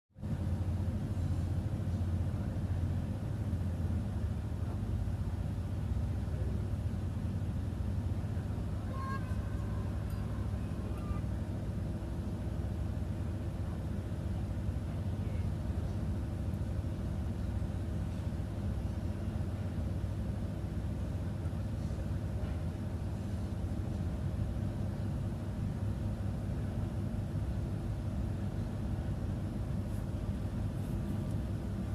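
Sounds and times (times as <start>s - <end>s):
ferry engines droning: 0.2s - 31.9s.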